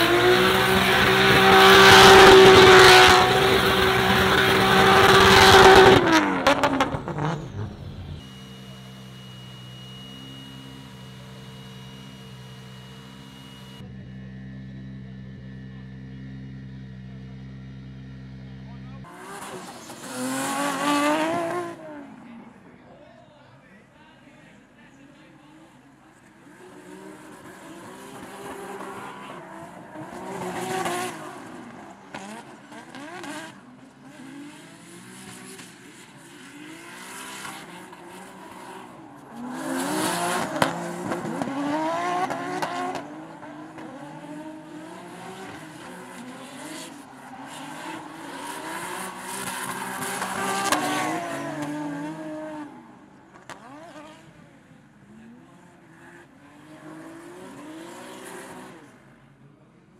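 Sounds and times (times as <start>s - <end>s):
car engines revving: 0.0s - 22.8s, 25.4s - 59.9s.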